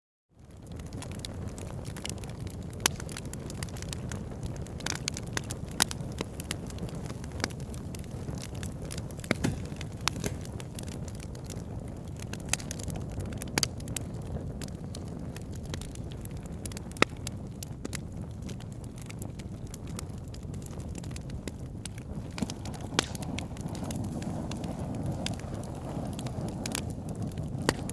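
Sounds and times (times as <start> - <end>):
burning wood crackling: 0.4 - 27.9
low rumble of flames: 0.4 - 27.9.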